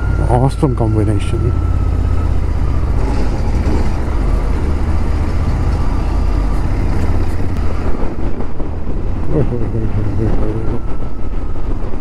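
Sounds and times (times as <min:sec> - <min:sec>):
motorcycle engine rumbling: 0:00.0 - 0:11.9.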